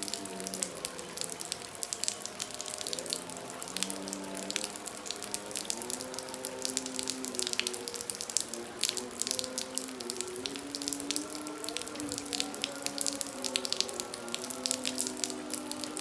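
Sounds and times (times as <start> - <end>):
heavy rain splashing: 0.0 - 16.0.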